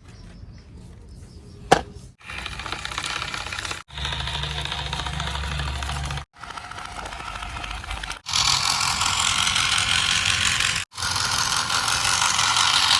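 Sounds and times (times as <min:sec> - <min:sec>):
toy motors whirring and rattling: 0:02.2 - 0:12.9.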